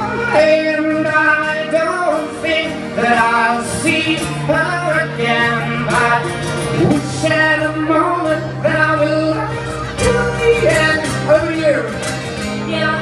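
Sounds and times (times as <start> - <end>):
acoustic guitar chords: 0.0 - 13.0
man singing: 0.0 - 13.0.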